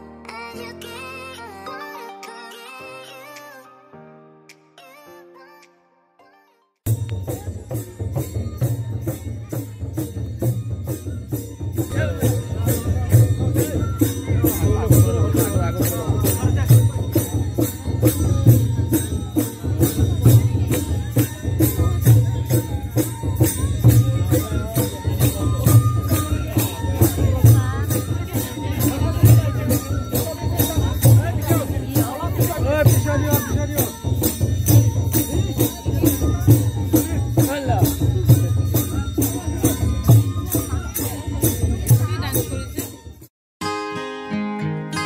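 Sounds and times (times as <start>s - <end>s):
deep drum beat: 6.9s - 43.2s
jingling metal percussion: 6.9s - 43.3s.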